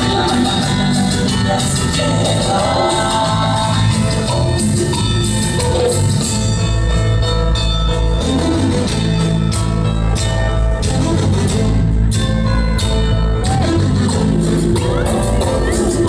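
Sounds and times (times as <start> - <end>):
loud dance music: 0.0 - 16.0.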